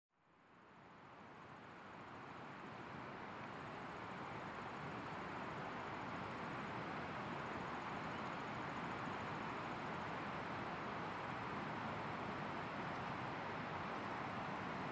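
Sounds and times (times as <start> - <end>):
steady outdoor hiss: 0.2 - 14.9.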